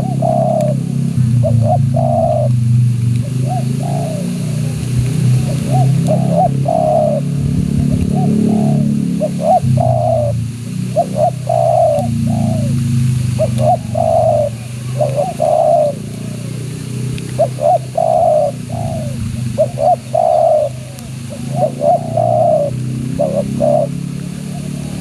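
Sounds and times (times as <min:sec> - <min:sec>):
dove cooing: 0:00.0 - 0:25.0
steady low hum: 0:00.0 - 0:25.0.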